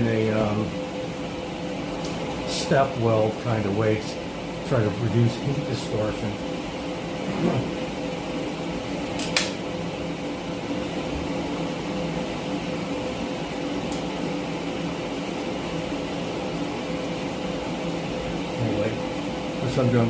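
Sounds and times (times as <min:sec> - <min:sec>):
cooling fan hum: 0:00.0 - 0:20.0.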